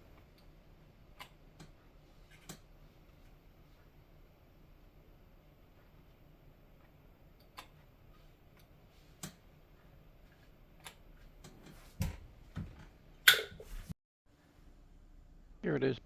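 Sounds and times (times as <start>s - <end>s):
faint low computer hum: 0.0s - 13.2s.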